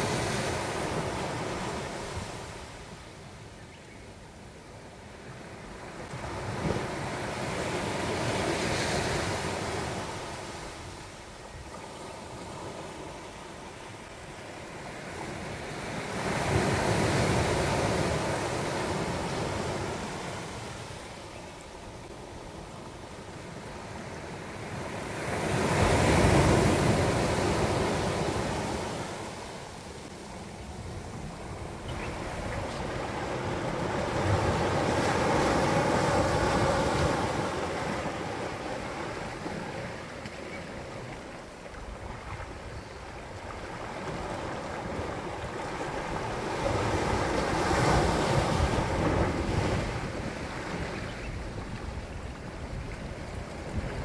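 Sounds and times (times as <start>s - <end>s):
waves breaking on rocky shore: 5.4s - 54.0s.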